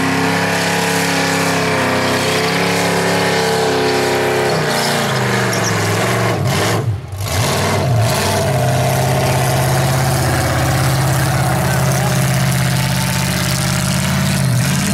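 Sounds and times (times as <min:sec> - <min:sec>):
truck engine revving hard: 0:00.0 - 0:14.9.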